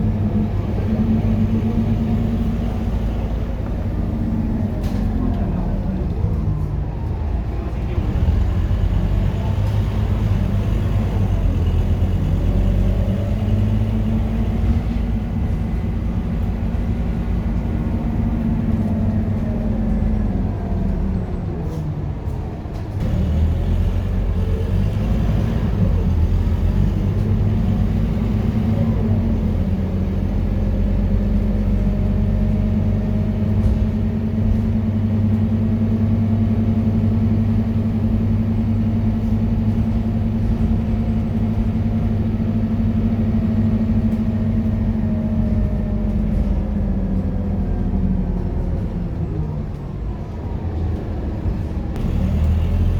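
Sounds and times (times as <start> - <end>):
bus diesel engine running: 0.0 - 52.9.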